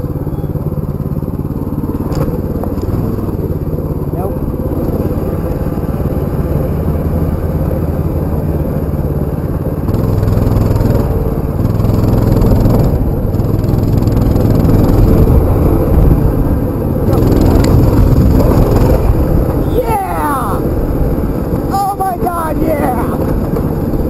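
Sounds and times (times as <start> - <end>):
mini bike engine revving: 0.0 - 24.0.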